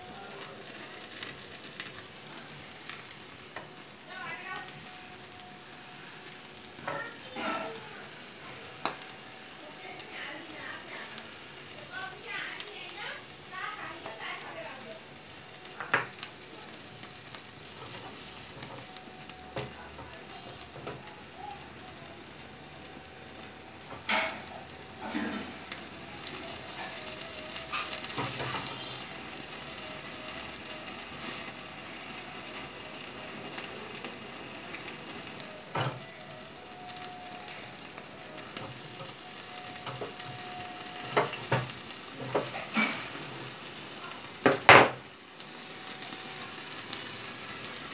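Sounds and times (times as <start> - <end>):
chicken sizzling over flame: 0.0 - 47.9.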